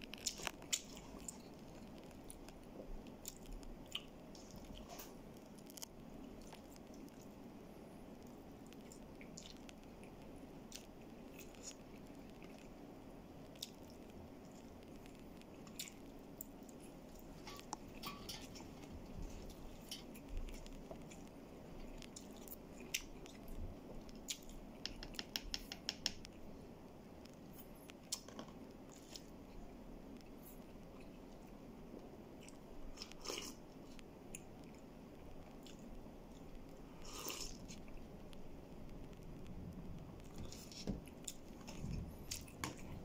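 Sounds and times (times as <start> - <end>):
low room hum: 0.0 - 43.0
soft chewing: 0.0 - 43.0.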